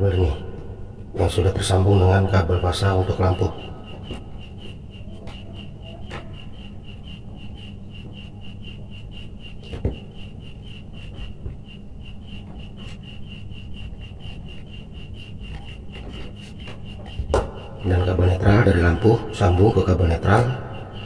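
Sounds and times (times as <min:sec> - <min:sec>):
steady high chirping: 0:00.0 - 0:21.0.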